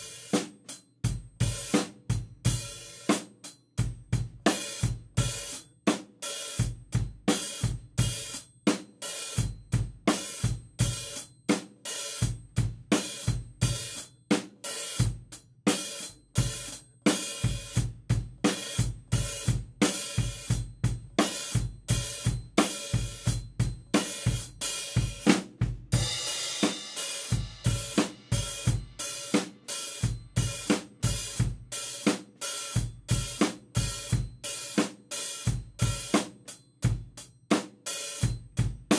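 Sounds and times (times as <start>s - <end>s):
drum kit playing a groove: 0.0s - 38.9s
open hi-hat bark: 0.0s - 38.9s.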